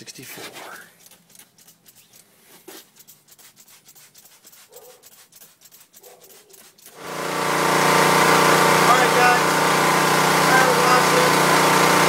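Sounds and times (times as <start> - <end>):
spray bottle squirting: 0.6 - 12.0.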